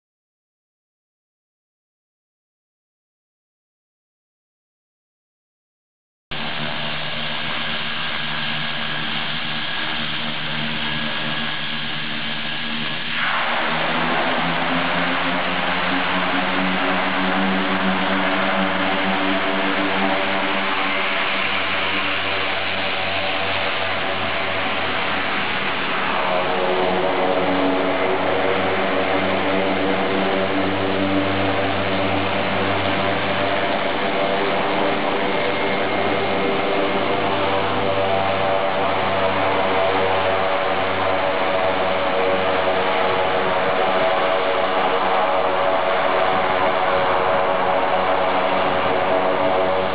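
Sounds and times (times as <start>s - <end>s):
turboprop engines whining: 6.3s - 49.9s.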